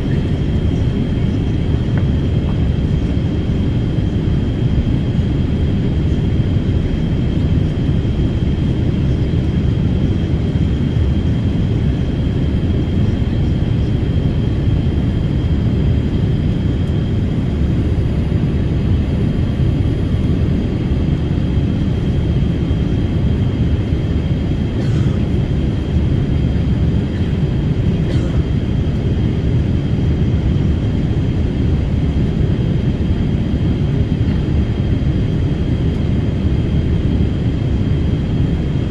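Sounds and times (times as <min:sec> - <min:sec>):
engine and airflow rush: 0:00.0 - 0:38.9
high steady whine: 0:00.0 - 0:38.9.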